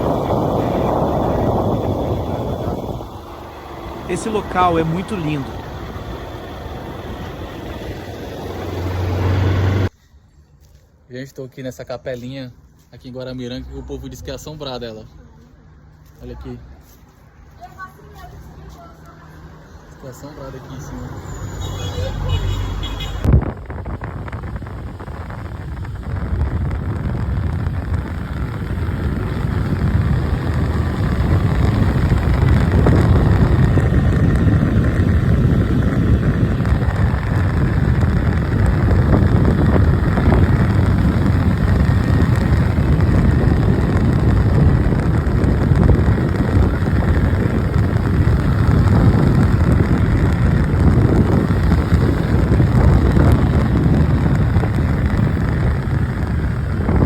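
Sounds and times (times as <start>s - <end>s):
wind rushing over microphone: 0.0s - 10.0s, 18.0s - 57.0s
motorcycle engine rumble: 0.0s - 10.8s, 16.8s - 57.0s.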